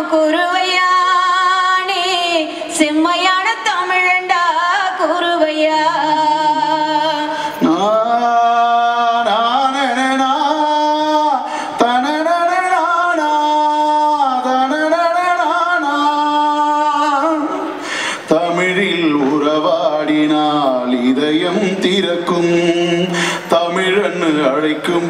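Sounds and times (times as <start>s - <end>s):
person singing folk song: 0.0s - 25.0s.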